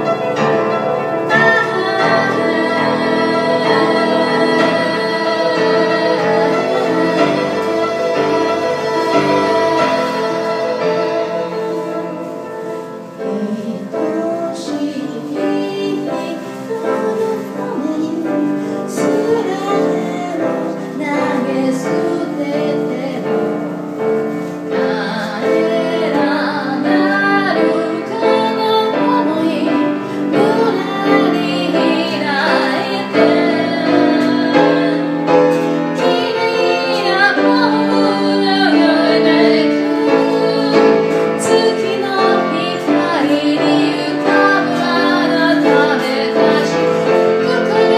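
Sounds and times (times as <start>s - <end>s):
woman singing: 0.0s - 24.0s, 24.7s - 47.9s
grand piano: 0.0s - 47.9s.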